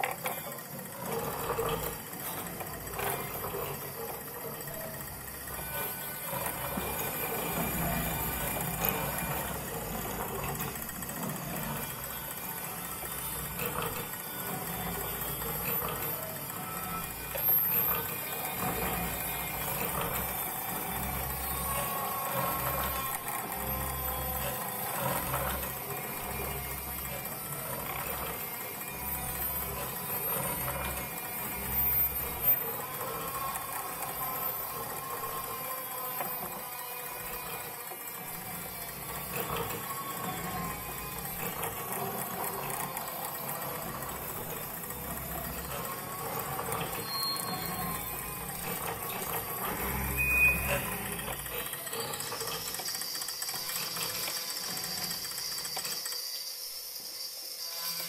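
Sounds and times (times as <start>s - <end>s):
machine-like whirring noise music: 0.0s - 58.0s.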